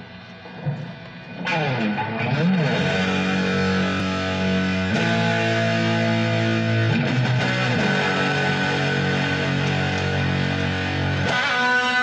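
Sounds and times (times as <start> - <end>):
electric guitar chord: 0.7 - 12.0.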